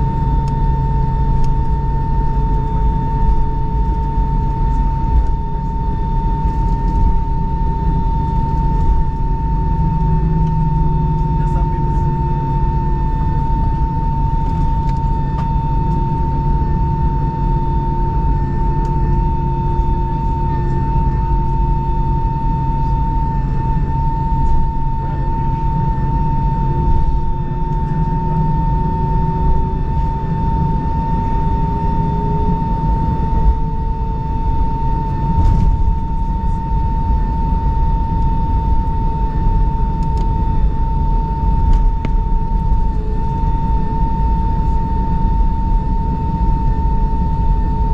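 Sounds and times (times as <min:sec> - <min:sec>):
low engine rumble: 0:00.0 - 0:47.6
aircraft cabin high whine: 0:00.0 - 0:47.9.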